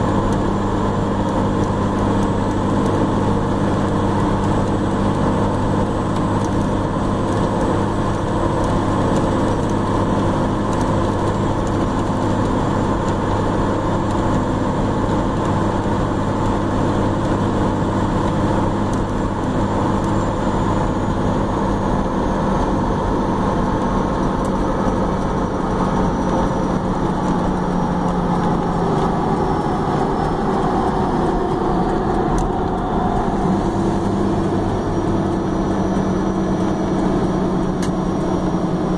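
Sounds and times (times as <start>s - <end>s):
diesel engine cruising: 0.0s - 38.9s
road noise: 0.0s - 38.9s.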